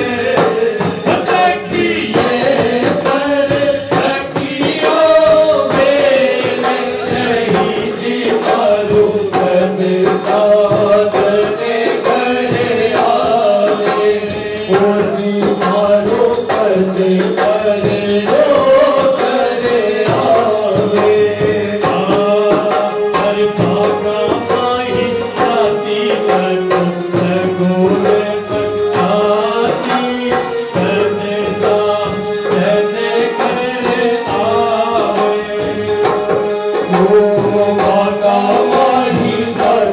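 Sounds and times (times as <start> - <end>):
hand percussion beat: 0.0 - 39.9
jingling tambourine: 0.0 - 39.9
voices singing: 0.0 - 39.9.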